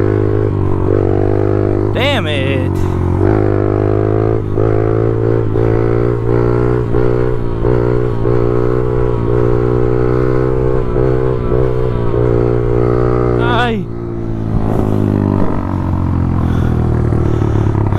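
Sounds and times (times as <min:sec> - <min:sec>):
pit bike engine revving: 0:00.0 - 0:17.9.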